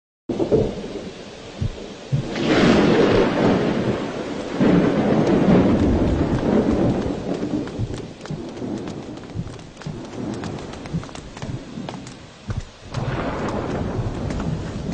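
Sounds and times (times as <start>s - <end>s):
steady rain: 0.3s - 14.9s
thunder rumbling: 0.3s - 14.9s
water dripping: 0.3s - 14.9s.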